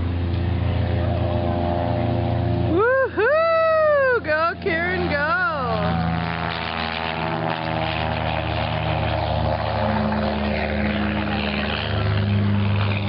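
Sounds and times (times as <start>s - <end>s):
propeller plane engine humming: 0.0s - 13.0s.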